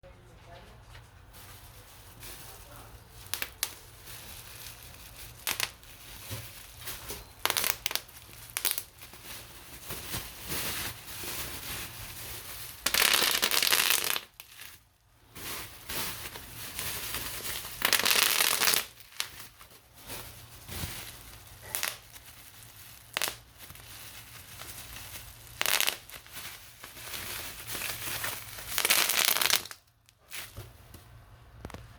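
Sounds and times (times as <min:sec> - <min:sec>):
dense crackling of squeezed wrap: 0:01.2 - 0:31.9
bubble wrap popping: 0:01.3 - 0:31.9.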